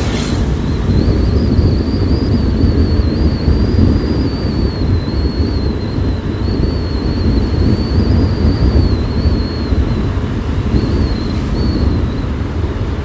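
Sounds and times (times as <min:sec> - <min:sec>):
thin high whine: 0:00.0 - 0:13.0
wind buffeting microphone: 0:00.0 - 0:13.0.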